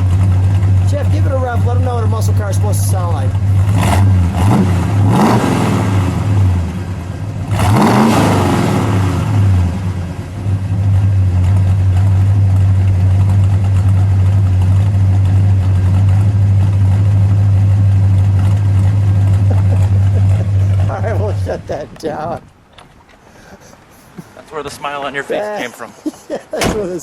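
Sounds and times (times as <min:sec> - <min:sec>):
car engine revving: 0:00.0 - 0:22.5
car engine idling: 0:00.0 - 0:25.3.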